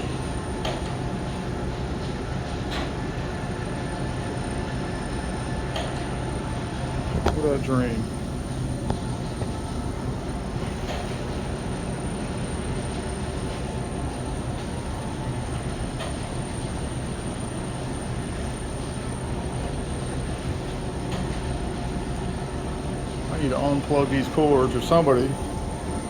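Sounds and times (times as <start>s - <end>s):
boiler room equipment rumbling: 0.0s - 26.0s.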